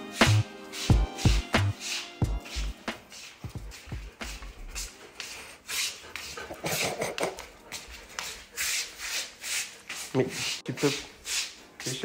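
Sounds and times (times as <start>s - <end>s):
brush swishing through fur: 0.0s - 6.9s, 7.7s - 12.0s.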